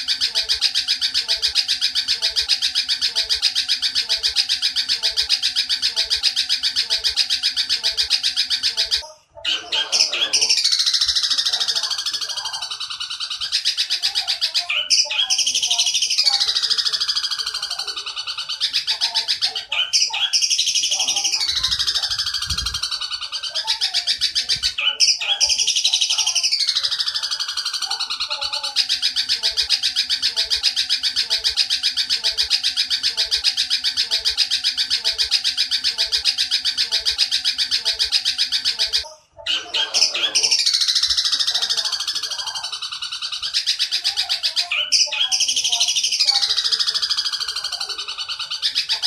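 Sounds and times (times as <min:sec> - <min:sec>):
sparrow chattering rattle: 0:00.0 - 0:49.0.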